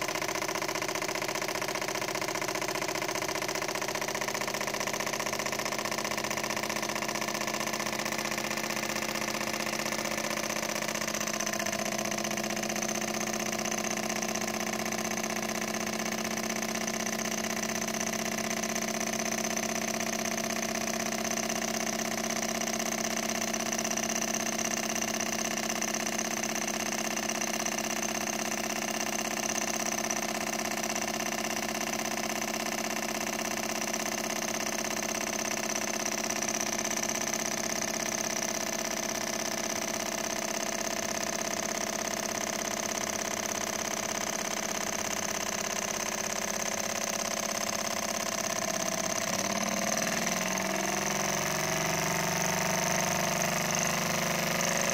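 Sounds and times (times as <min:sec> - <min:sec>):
model stirling engine running: 0:00.0 - 0:54.9.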